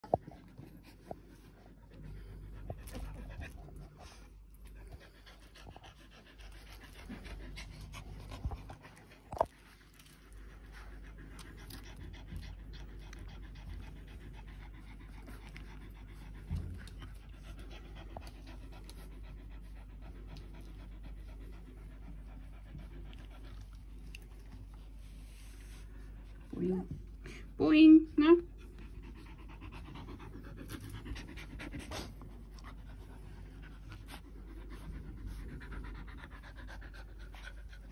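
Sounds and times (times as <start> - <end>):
puppies panting: 0.0 - 37.9.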